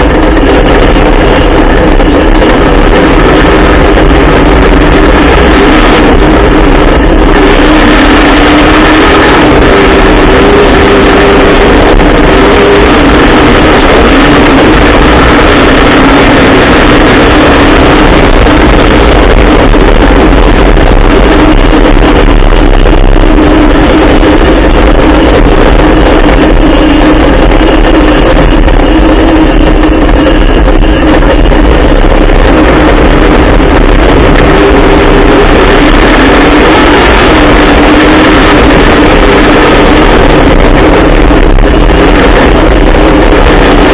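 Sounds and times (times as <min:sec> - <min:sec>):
loud truck engine running: 0:00.0 - 0:43.9.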